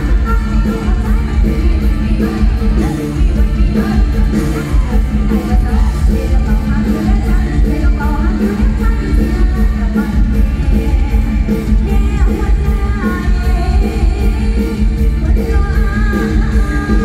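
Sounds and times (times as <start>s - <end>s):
live band music over pa: 0.0s - 17.0s
woman singing into microphone: 0.0s - 17.0s.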